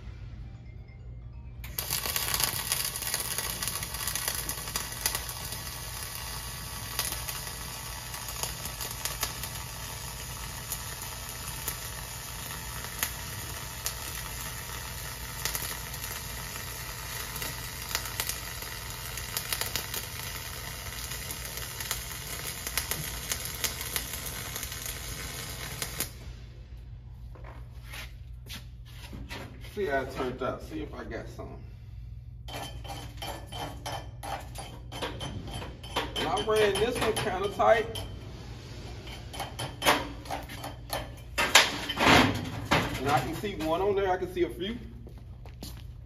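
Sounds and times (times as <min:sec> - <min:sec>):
welding arc crackling and popping: 0:01.7 - 0:26.3, 0:32.5 - 0:38.1, 0:39.1 - 0:46.0.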